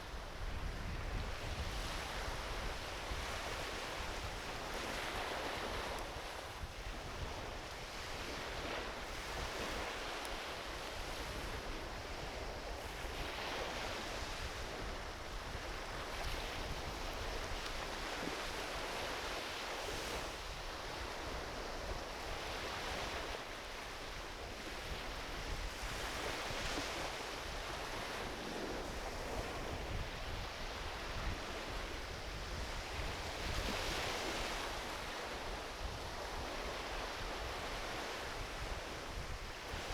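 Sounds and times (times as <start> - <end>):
ocean waves washing onto beach: 0.0 - 39.9
wind rumble on microphone: 0.0 - 39.9.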